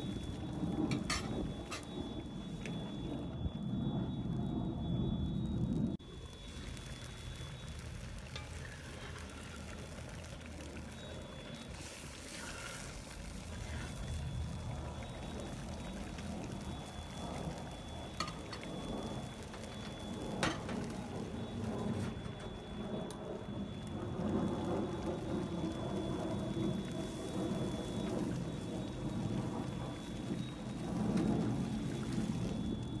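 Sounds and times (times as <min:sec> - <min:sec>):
soup bubbling at a boil: 0:00.0 - 0:33.0.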